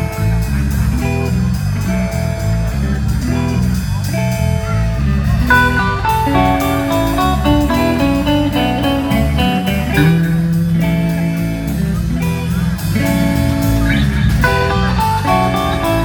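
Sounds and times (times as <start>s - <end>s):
electric guitar held notes: 0.0s - 16.0s
walking bass line: 0.0s - 16.0s.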